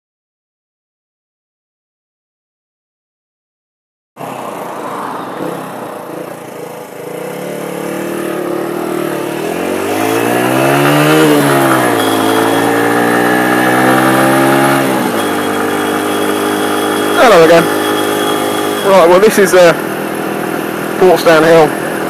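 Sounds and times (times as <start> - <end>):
motorcycle engine accelerating: 4.2 - 22.0.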